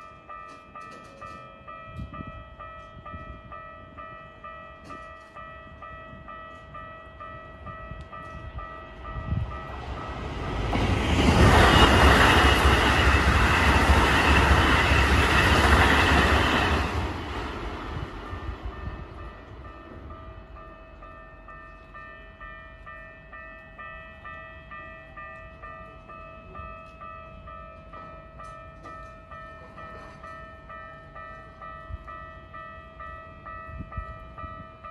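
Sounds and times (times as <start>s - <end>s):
train rumble and wheel noise: 0.0s - 34.9s.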